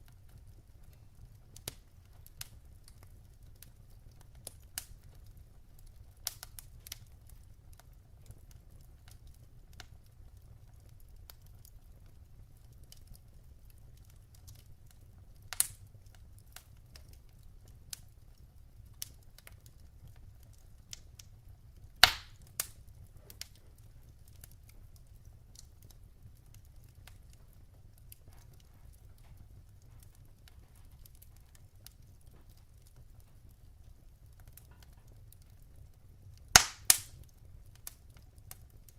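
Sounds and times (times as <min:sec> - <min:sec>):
logs crackling in fireplace: 0:00.0 - 0:38.9.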